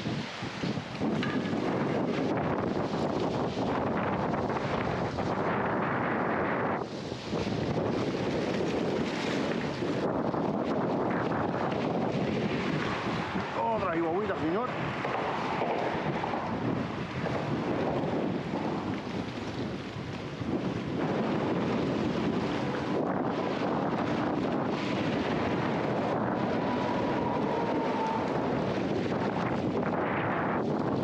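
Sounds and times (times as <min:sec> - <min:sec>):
strong wind buffeting microphone: 0:00.0 - 0:31.0.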